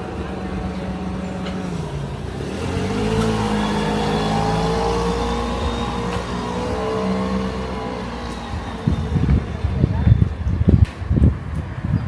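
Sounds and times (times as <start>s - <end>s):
vehicle engine running: 0.0s - 10.8s.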